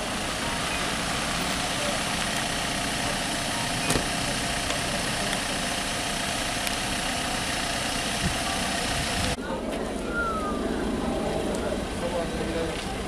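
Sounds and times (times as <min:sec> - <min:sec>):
engines idling: 0:00.0 - 0:13.0.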